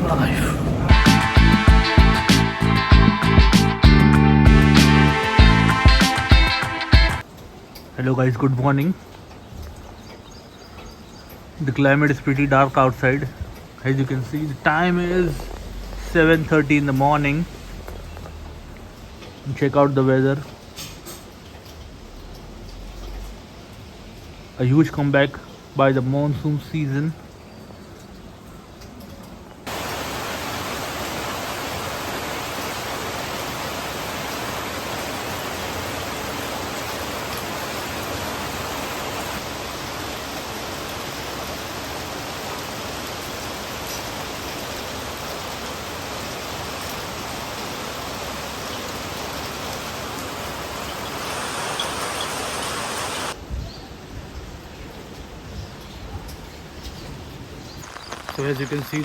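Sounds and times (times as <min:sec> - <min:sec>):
heavy rain pouring: 0:00.0 - 0:25.7, 0:28.6 - 0:53.5, 0:54.6 - 0:59.0.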